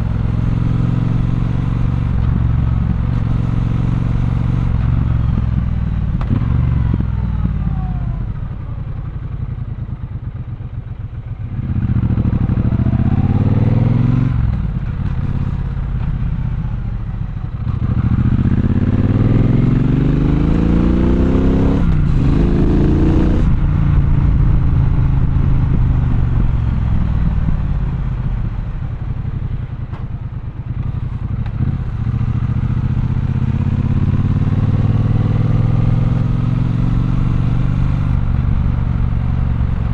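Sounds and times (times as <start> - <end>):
motorcycle engine revving: 0.0 - 8.3, 11.4 - 39.9.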